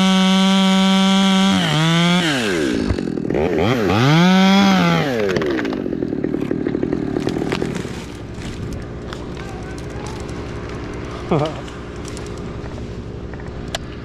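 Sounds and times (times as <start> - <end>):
chainsaw revving and idling: 0.0 - 14.0.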